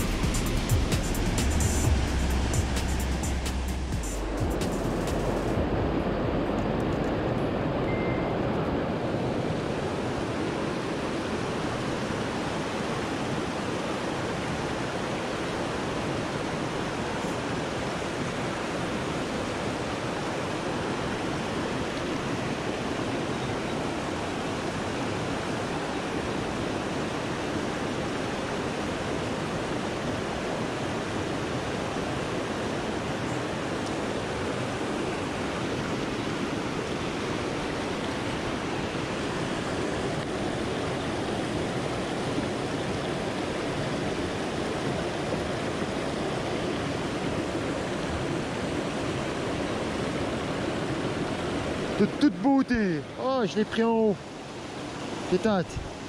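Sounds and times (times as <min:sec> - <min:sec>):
river current rushing: 0:00.0 - 0:56.0.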